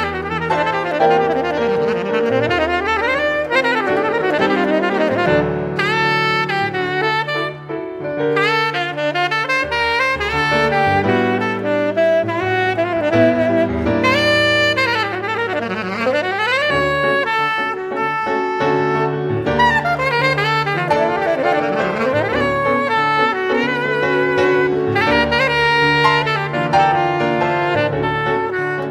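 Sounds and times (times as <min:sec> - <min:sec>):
jazz saxophone music: 0:00.0 - 0:28.9.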